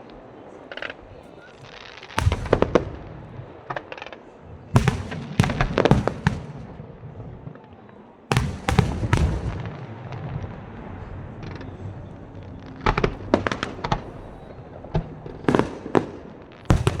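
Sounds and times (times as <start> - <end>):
fireworks bangs: 0.0 - 17.0
small fireworks pops: 0.0 - 17.0.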